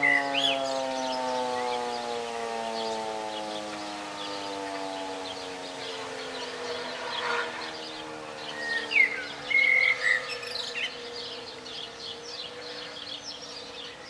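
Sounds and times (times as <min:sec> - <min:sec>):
birds chirping and whistling: 0:00.0 - 0:14.0
civil defence siren running down: 0:00.0 - 0:14.0.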